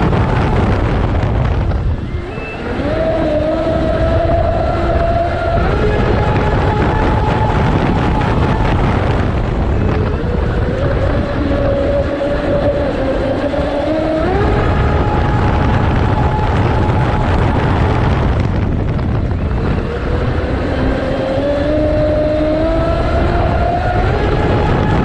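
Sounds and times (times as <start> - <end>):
rc boat motor whine: 0.0 - 25.0
rush of water and wind: 0.0 - 25.0.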